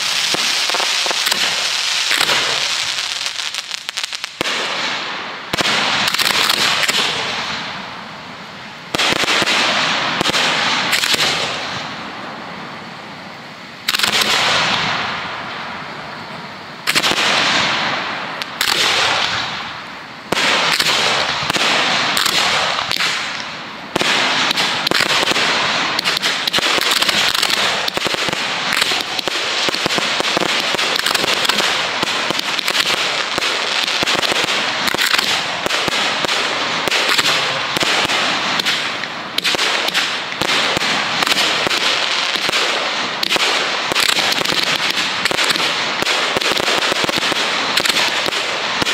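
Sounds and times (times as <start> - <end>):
fireworks barrage of bangs and crackling: 0.0 - 48.9.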